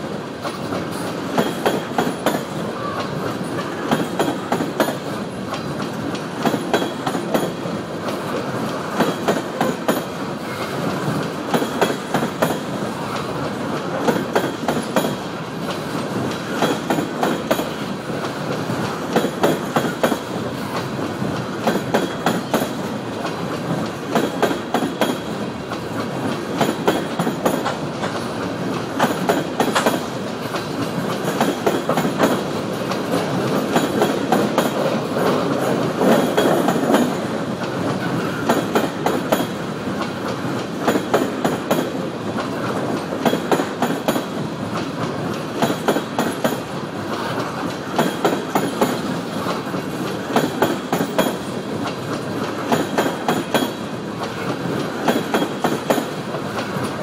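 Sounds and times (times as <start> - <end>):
freight train rumbling past: 0.0 - 57.0
wheels clicking over rail joints: 0.3 - 57.0.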